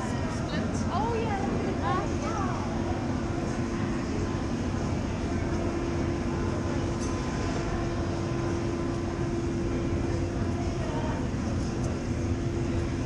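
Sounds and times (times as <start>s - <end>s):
faint indistinct voices: 0.0s - 13.0s
steady machine hum: 0.0s - 13.0s.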